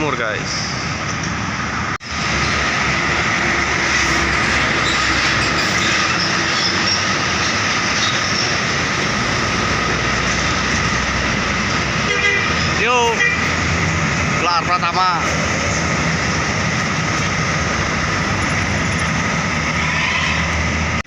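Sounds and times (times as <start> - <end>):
heavy road traffic roar: 0.0 - 21.0.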